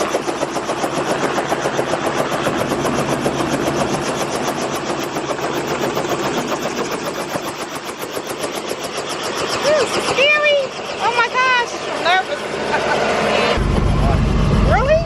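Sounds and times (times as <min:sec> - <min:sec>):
helicopter rotor chopping: 0:00.0 - 0:15.0
loud engine noise: 0:00.0 - 0:15.0.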